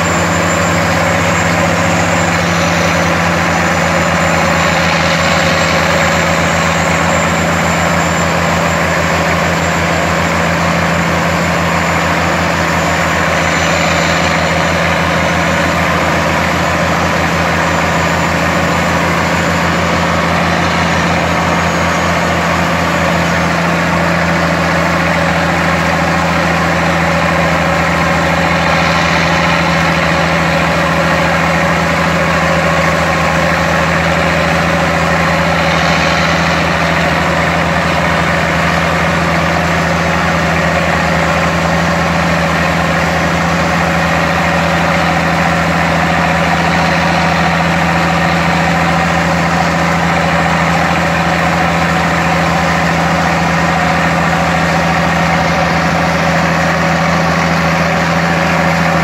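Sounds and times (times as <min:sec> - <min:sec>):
tractor diesel engines droning: 0:00.0 - 0:59.0.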